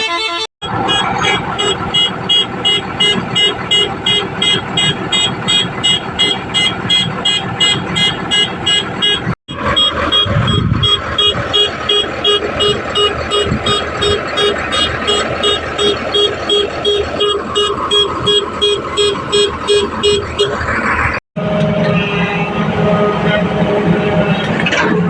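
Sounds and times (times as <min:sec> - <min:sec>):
vehicle engine running: 0:00.6 - 0:25.0.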